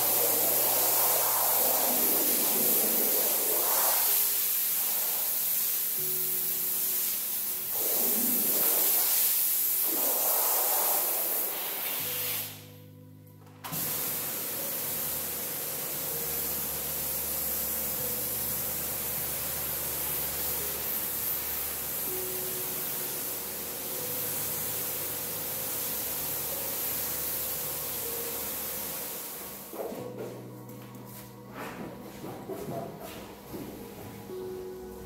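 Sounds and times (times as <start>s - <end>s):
pressure washer spraying water: 0.0s - 12.7s, 13.7s - 29.8s
background music: 0.0s - 35.0s.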